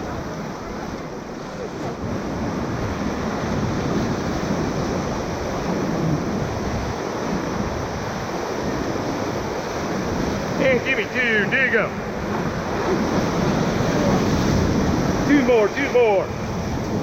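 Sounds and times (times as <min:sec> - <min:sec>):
rushing whitewater: 0:00.0 - 0:17.0
wind buffeting microphone: 0:00.0 - 0:17.0.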